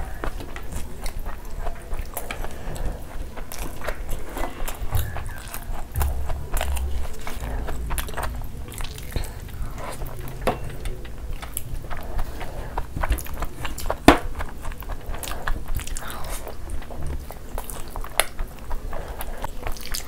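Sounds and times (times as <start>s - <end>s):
wet chewing and lip smacks: 0.0s - 20.0s.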